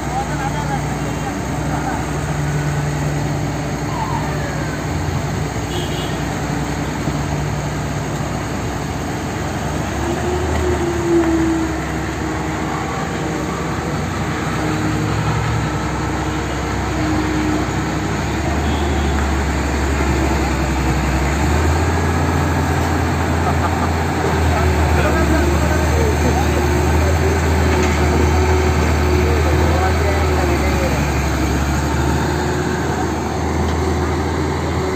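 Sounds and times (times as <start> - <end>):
excavator engine running: 0.0 - 34.9.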